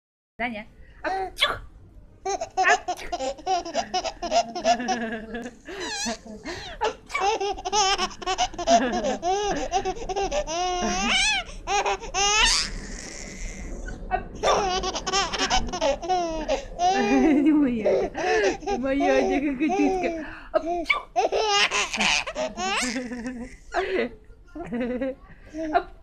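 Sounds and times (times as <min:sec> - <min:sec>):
baby laughing: 0:02.3 - 0:23.6.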